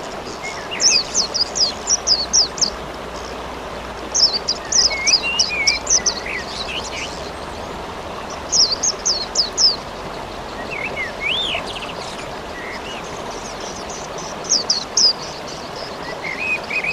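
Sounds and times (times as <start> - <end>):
songbird calling: 0.0 - 16.9
steady rain hiss: 0.0 - 16.9.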